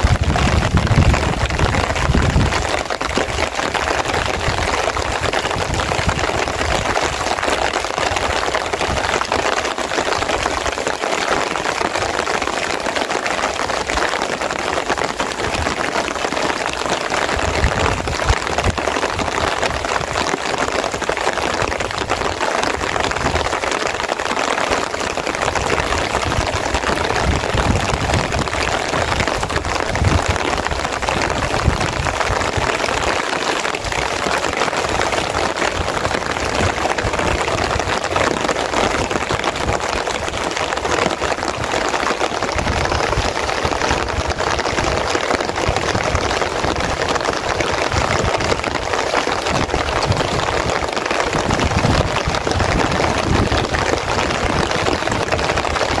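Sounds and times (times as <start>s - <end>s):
rain on a tarpaulin: 0.0s - 56.0s.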